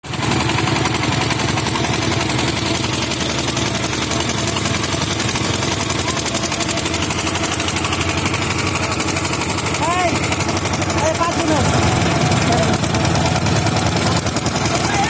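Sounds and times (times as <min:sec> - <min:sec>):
boat engine puttering: 0:00.0 - 0:15.0.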